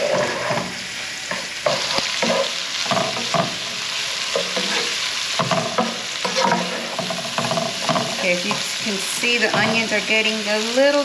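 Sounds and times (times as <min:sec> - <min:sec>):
wooden spatula scraping a pan: 0:00.0 - 0:10.3
vegetables sizzling in a pan: 0:00.0 - 0:11.0.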